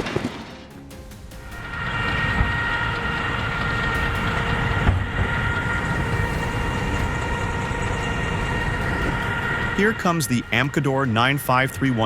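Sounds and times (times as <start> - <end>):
constant whine: 0.8 - 12.0
heavy machine engine running: 1.1 - 12.0.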